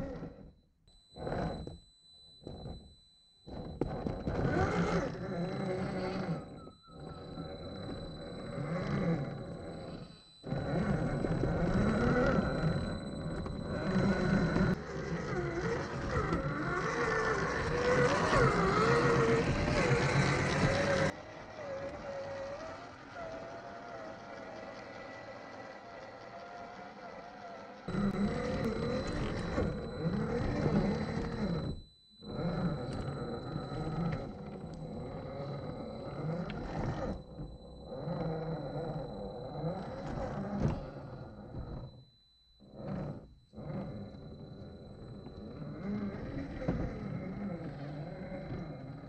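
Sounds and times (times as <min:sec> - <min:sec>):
toy car electric motor whining: 0:00.0 - 0:49.0.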